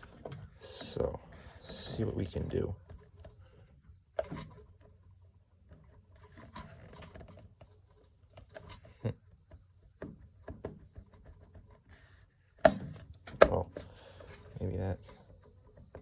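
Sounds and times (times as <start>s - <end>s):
faint bird chirps: 0.0s - 12.6s, 13.3s - 16.0s.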